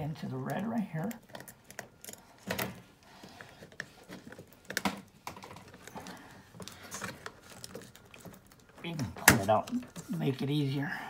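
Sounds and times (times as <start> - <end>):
wires rustling: 0.0 - 10.9.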